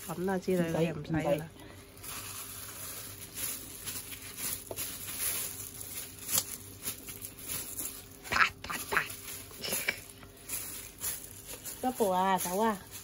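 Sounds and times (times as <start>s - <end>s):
plastic glove crinkling: 0.0s - 13.0s.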